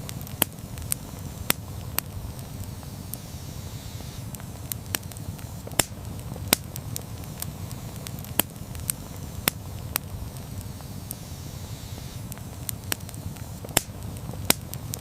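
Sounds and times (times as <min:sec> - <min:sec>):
campfire crackles and pops: 0:00.0 - 0:15.0
campfire flame rumble: 0:00.0 - 0:15.0.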